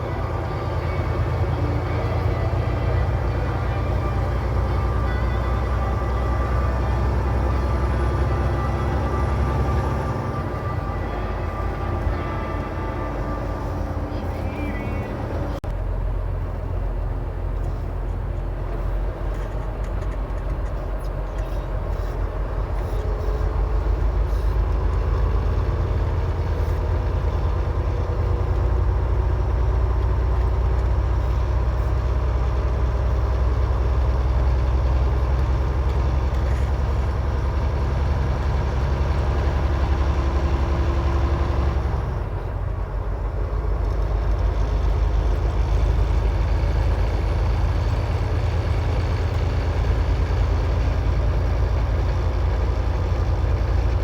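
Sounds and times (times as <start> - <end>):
diesel engine droning: 0.0 - 54.0
road noise: 0.0 - 54.0.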